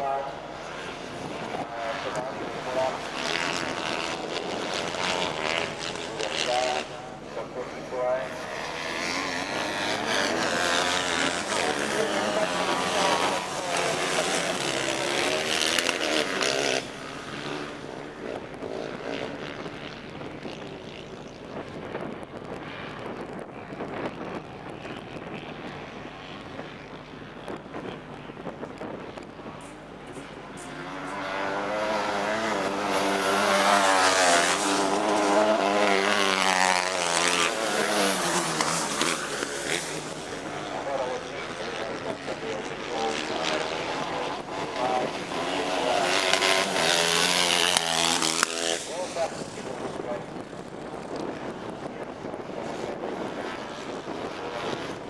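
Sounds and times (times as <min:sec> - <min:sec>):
small buggy engines revving: 0:00.0 - 0:55.0.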